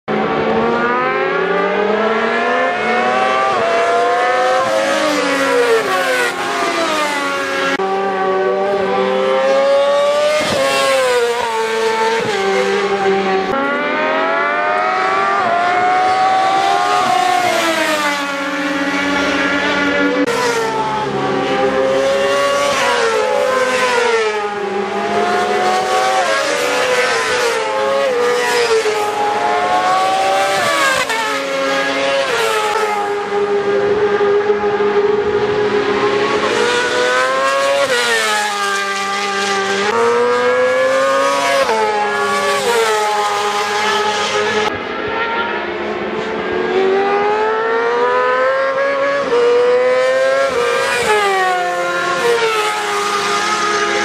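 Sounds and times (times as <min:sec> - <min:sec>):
racing motorcycle engines revving: 0:00.1 - 0:54.0.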